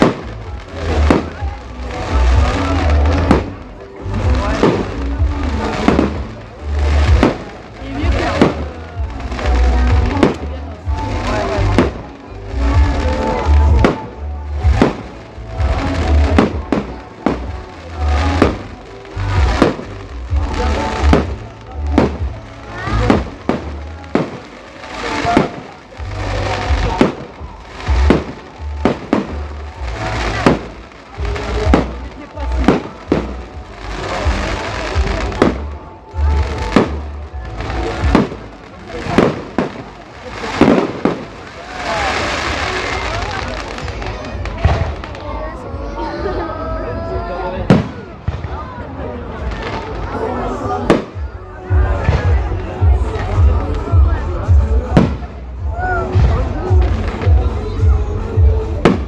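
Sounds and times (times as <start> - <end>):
loud music with pulsing bass: 0.0 - 39.6, 50.2 - 59.0
fireworks bangs: 0.0 - 59.0
fireworks crackling: 0.0 - 59.0.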